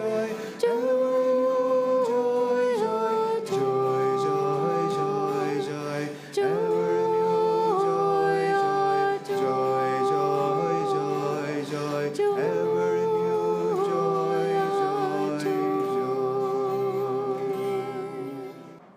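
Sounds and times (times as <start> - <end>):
devotional chant: 0.0 - 18.9.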